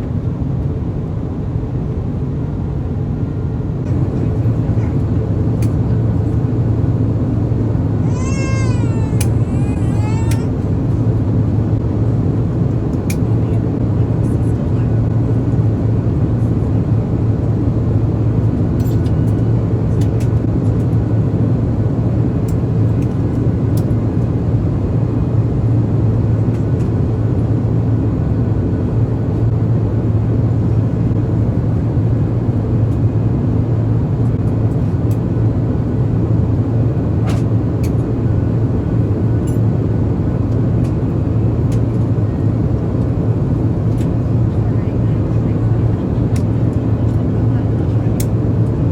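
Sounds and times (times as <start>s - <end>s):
aircraft cabin engine rush: 0.0s - 48.9s.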